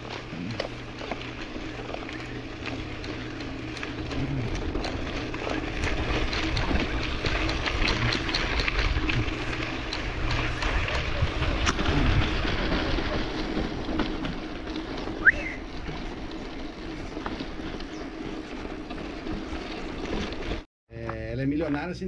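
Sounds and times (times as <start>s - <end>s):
bike rattles: 0.0s - 22.0s
bike tyres on dirt: 0.0s - 22.0s.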